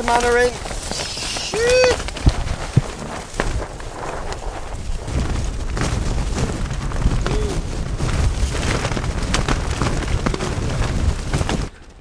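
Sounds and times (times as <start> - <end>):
tent fabric flapping: 0.0 - 12.0
wind buffeting microphone: 0.0 - 12.0.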